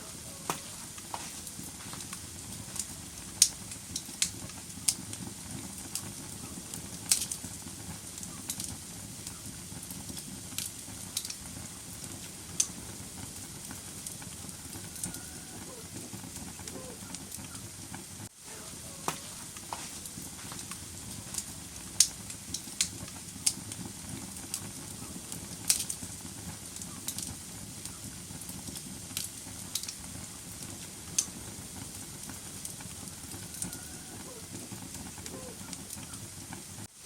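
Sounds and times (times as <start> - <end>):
fire crackling and popping: 0.0 - 37.0
wood fire burning: 0.0 - 37.0.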